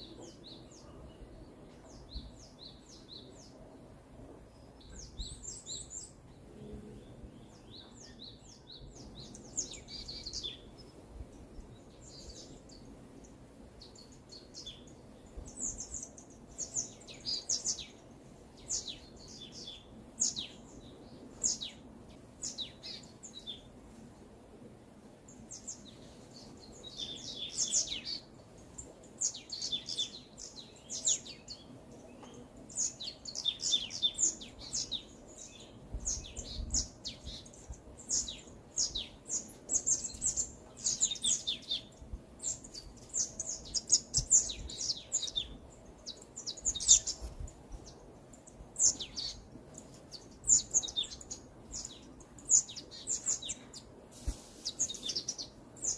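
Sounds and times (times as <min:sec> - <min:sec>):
songbirds chirping and singing: 0:00.0 - 0:24.3, 0:25.0 - 0:55.9
faint steady background noise: 0:00.0 - 0:55.9.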